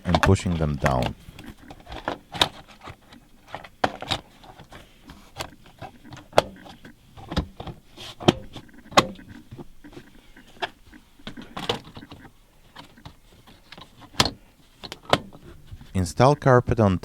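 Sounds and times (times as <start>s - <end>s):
light plastic rattling: 0.0s - 16.0s.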